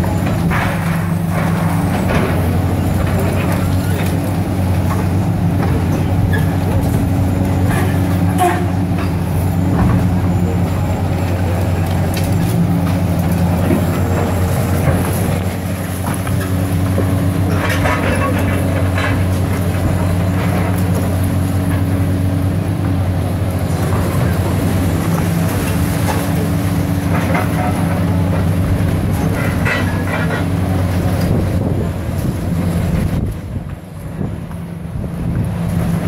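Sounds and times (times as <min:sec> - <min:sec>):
excavator diesel engines droning: 0:00.0 - 0:36.0.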